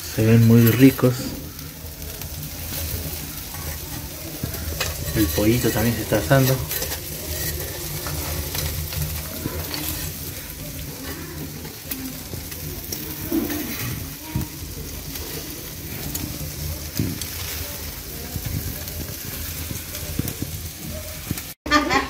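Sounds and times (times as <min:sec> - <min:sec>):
meat sizzling on a grill: 0:00.0 - 0:22.0
charcoal pops and crackles: 0:00.6 - 0:21.6.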